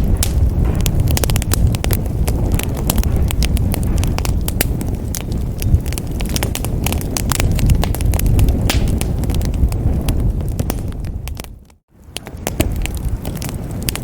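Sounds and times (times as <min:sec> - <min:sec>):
fire pops and crackles: 0:00.0 - 0:14.0
low rumble of flames: 0:00.0 - 0:14.0.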